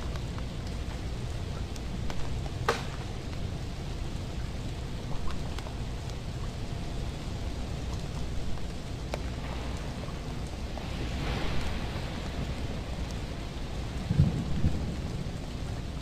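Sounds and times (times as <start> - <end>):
freezing rain pattering: 0.0 - 16.0
low rumble: 0.0 - 16.0.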